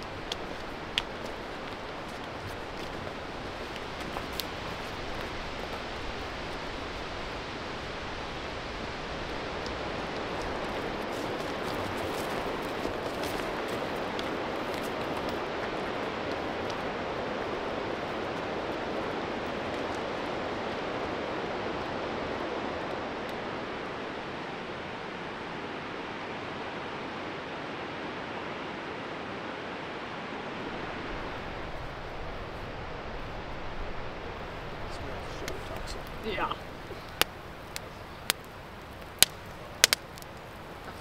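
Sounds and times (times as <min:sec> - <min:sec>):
mountain stream rushing: 0:00.0 - 0:41.0.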